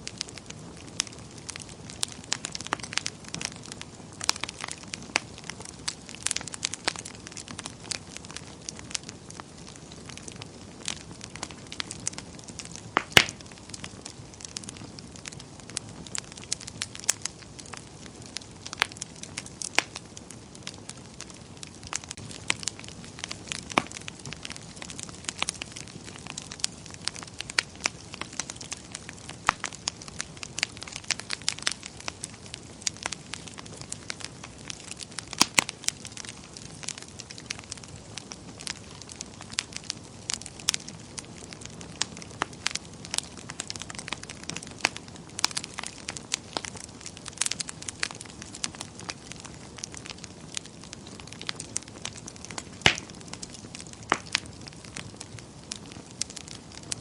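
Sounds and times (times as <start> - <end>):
wood fire popping and snapping: 0.0 - 57.0.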